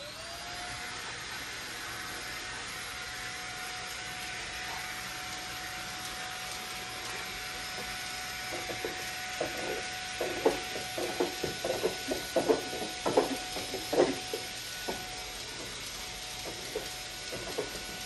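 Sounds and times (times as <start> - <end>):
vacuum cleaner motor whine: 0.0 - 18.0
air hissing through hose: 0.8 - 18.0.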